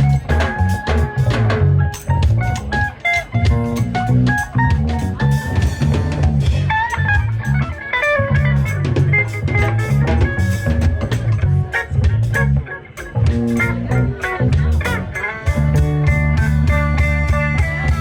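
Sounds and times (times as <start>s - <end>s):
bass line: 0.0s - 18.0s
drum kit groove: 0.0s - 18.0s
electric guitar melody: 0.0s - 18.0s
hand percussion: 0.0s - 18.0s.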